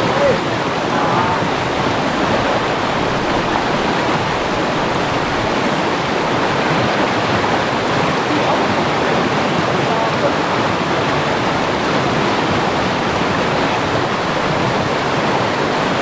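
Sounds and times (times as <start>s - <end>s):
river water rushing over rapids: 0.0s - 16.0s.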